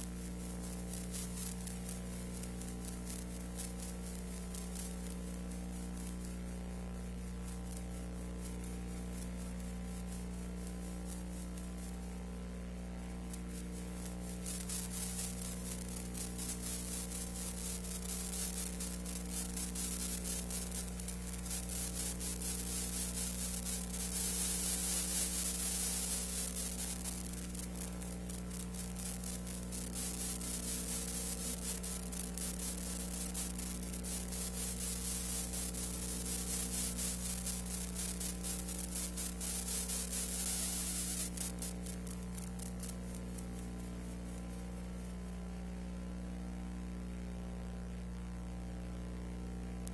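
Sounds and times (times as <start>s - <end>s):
fine crackle: 0.0s - 48.4s
steady electrical hum: 0.0s - 49.9s
tape hiss: 0.0s - 49.9s.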